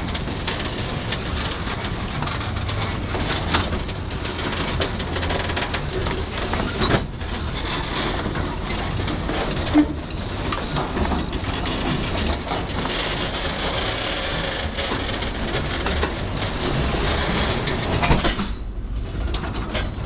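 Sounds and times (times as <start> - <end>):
train rumble: 0.0 - 20.0
train wheels clattering on rails: 0.0 - 20.0.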